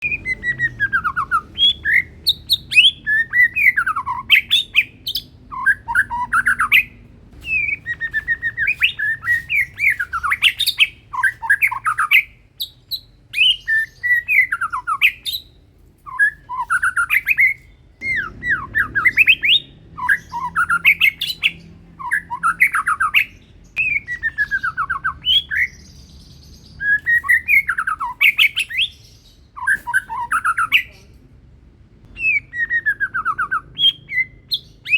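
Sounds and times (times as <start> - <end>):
bird singing whistled phrases: 0.0 - 15.5, 16.1 - 31.0, 32.1 - 34.9.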